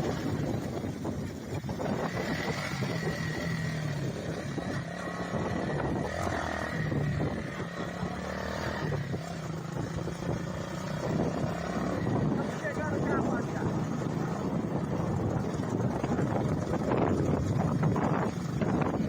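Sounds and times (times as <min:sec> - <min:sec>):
motorcycle engine running: 0:00.0 - 0:19.0
wind on microphone: 0:00.0 - 0:19.0.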